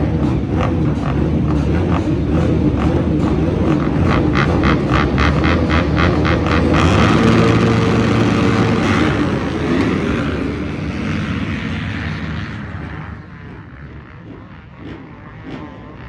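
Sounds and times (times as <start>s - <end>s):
racing engines: 0.0s - 16.0s.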